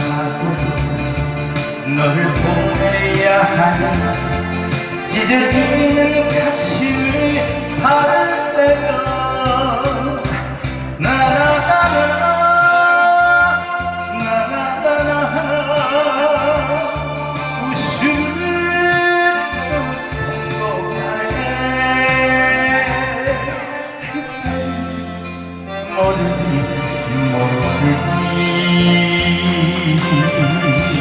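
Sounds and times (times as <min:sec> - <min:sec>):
man singing into microphone: 0:00.0 - 0:31.0
musical accompaniment with bass line: 0:00.0 - 0:31.0.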